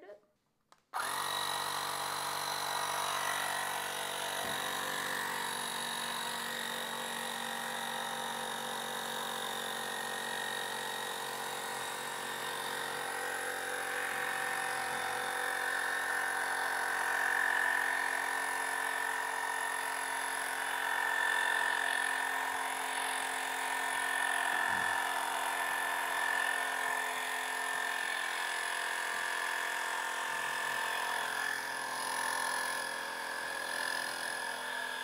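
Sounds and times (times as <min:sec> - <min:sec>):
electric compressor whining: 0:01.0 - 0:35.0.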